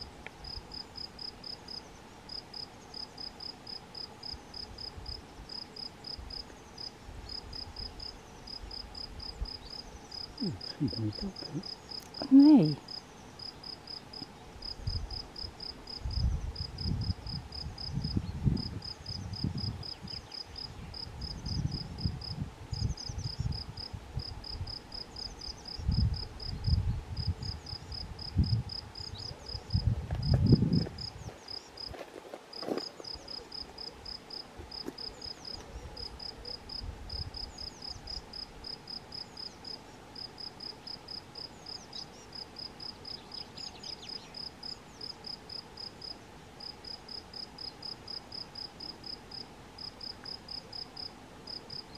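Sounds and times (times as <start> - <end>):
insect chirping: 0.4 - 51.9.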